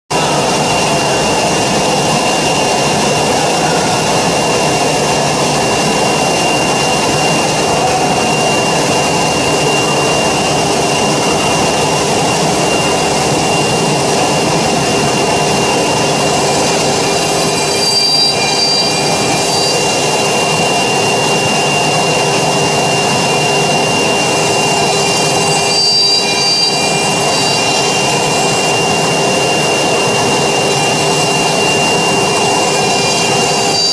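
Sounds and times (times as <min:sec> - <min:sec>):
machine noise: 0:00.1 - 0:33.9
router spindle whine: 0:00.1 - 0:33.9.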